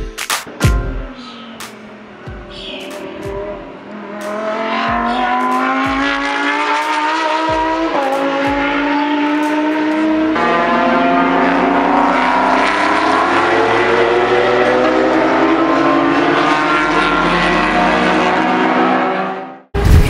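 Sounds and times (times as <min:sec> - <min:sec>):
race car engines accelerating: 0:00.5 - 0:20.0.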